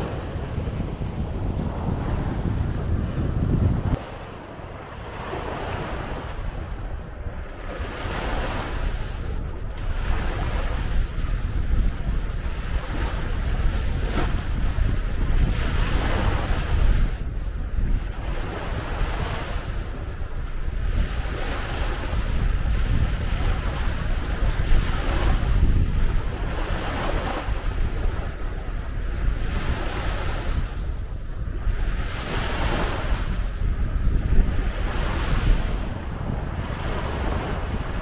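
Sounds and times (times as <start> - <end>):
waves washing up a beach: 0.0 - 38.0
wind buffeting microphone: 0.0 - 38.0.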